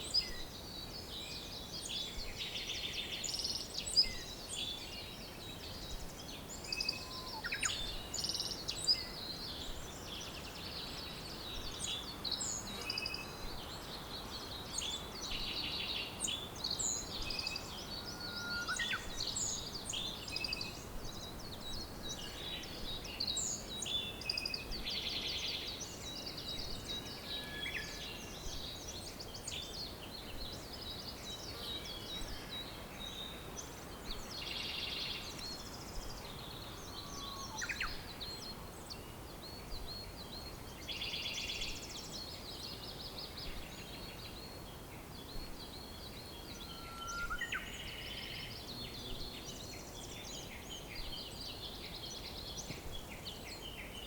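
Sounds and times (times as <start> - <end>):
background hiss: 0.0 - 54.0
songbirds chirping and trilling: 0.0 - 54.0.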